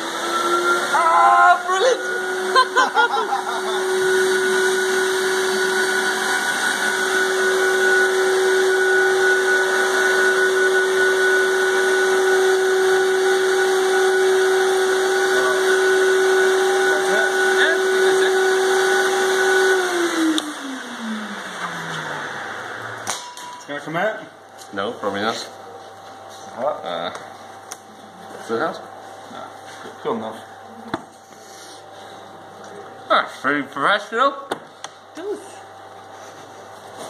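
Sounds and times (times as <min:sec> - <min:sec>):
vacuum cleaner whining: 0:00.0 - 0:37.0.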